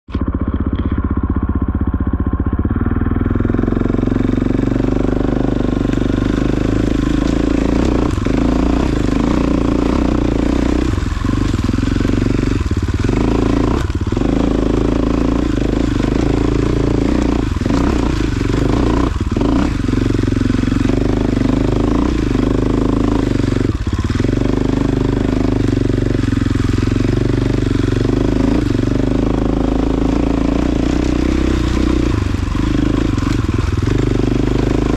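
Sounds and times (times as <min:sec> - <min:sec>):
off-road vehicle engine: 0:00.0 - 0:34.9.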